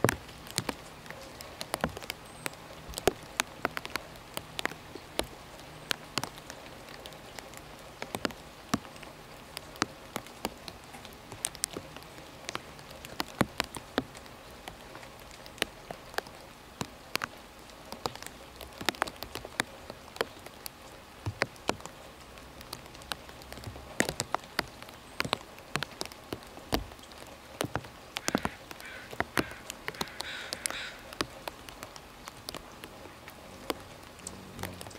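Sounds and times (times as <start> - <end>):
rain drips and ticks: 0.0 - 34.9
rain hiss: 0.0 - 34.9.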